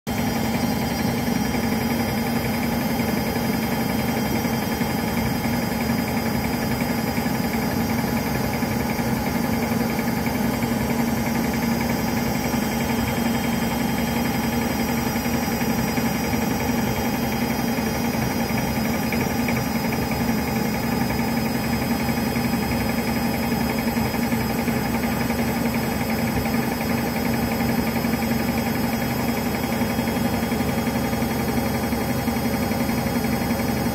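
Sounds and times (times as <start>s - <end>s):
washing machine spinning hum: 0.1s - 33.9s.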